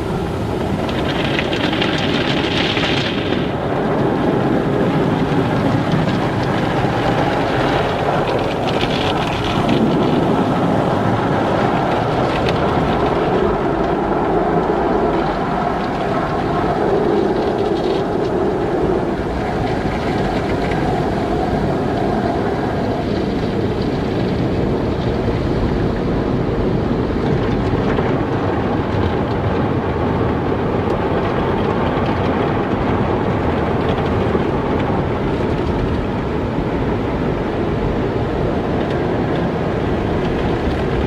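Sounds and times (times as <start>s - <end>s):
car wash machinery and water: 0.0s - 41.0s.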